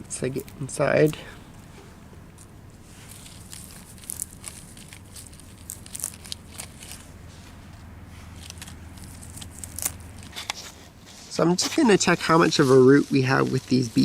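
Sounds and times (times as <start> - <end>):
low background hum: 0.0 - 14.0
plants rustling and crackling: 0.0 - 14.0.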